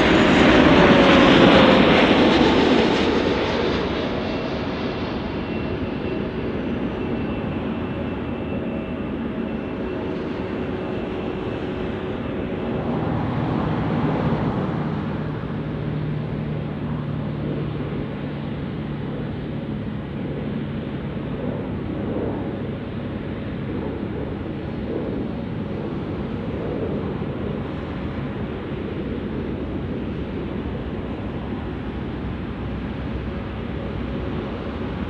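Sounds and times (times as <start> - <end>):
jet engine rumble: 0.0 - 35.0.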